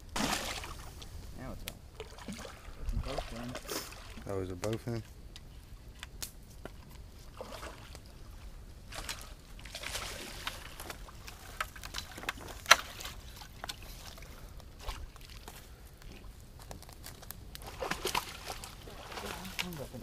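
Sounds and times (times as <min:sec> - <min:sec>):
water sloshing and splashing: 0:00.0 - 0:05.1, 0:06.7 - 0:16.3, 0:17.6 - 0:20.0.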